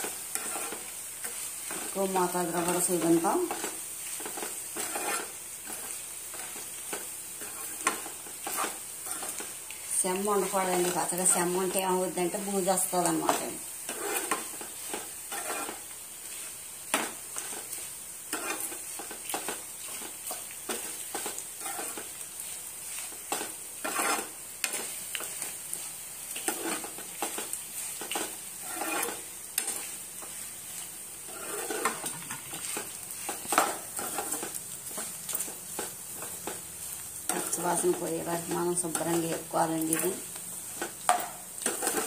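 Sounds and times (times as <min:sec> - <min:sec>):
frying sizzle: 0:00.0 - 0:42.0.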